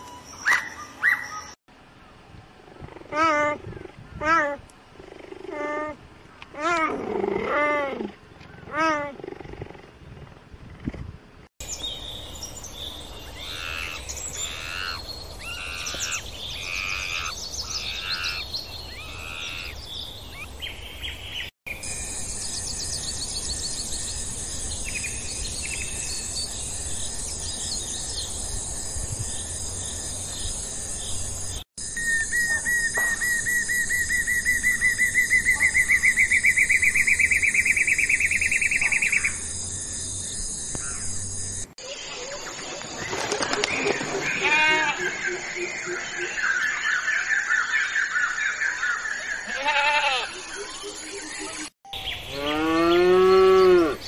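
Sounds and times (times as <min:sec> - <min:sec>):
bird chirping: 0:00.0 - 0:01.6, 0:11.6 - 0:54.0.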